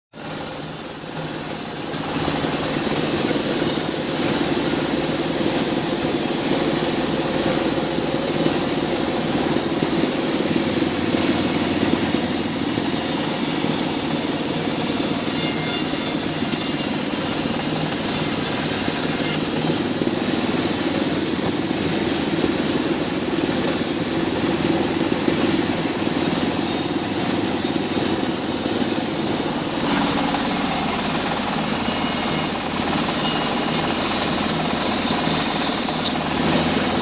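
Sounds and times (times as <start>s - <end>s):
sawmill saw droning: 0.2s - 37.0s.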